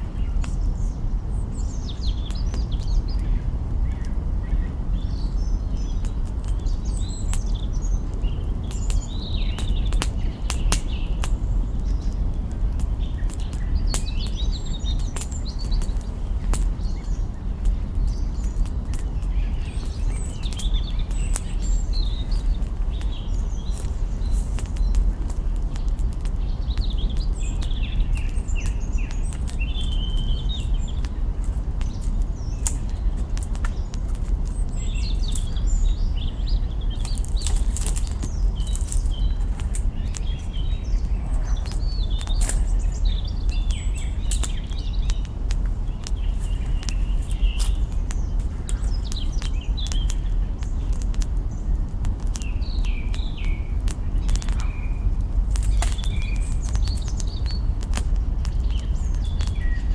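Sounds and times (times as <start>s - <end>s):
small birds chirping: 0.0s - 59.9s
campfire crackling and popping: 0.4s - 59.9s.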